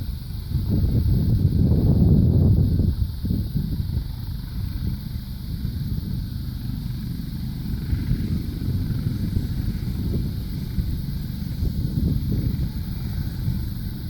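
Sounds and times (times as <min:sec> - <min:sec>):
helicopter engine and rotor rumble: 0:00.0 - 0:14.0.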